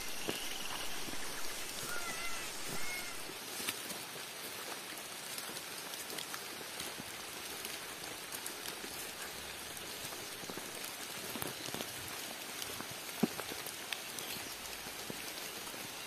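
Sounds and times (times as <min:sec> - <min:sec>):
water drops falling on leaves: 0:00.0 - 0:16.0.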